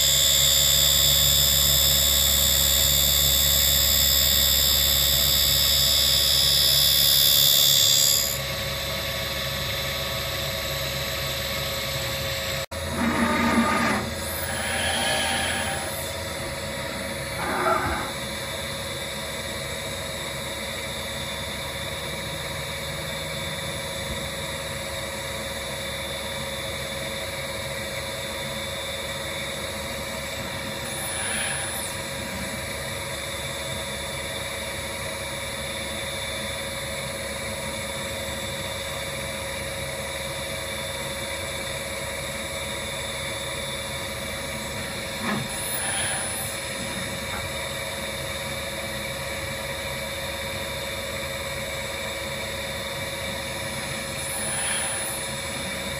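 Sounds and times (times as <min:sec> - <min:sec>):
tool grinder hum and whine: 0:00.0 - 0:55.9.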